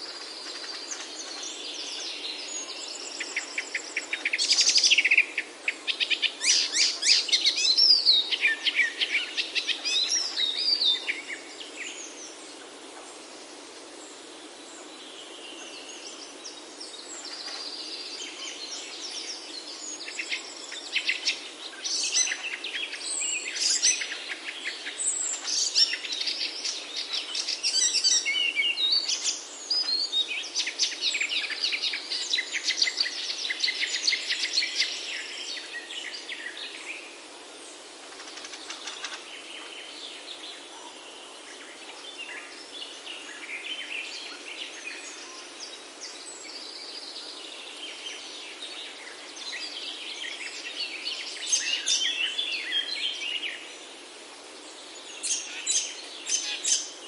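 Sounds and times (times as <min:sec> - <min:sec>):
faint steady hiss: 0:00.0 - 0:57.0
songbirds chirping and trilling: 0:00.0 - 0:57.0.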